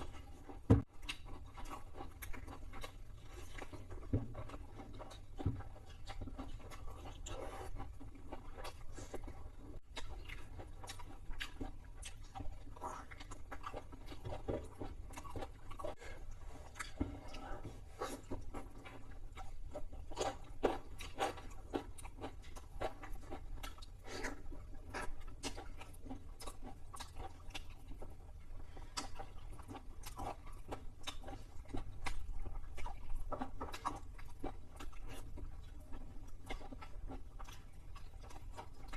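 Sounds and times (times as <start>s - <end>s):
chewing crunchy food: 0.0s - 38.9s.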